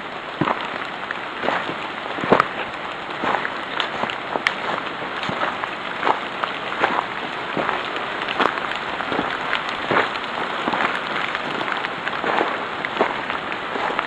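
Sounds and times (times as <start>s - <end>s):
steady hiss: 0.0s - 14.0s
footsteps crunching through leaves: 1.4s - 14.0s.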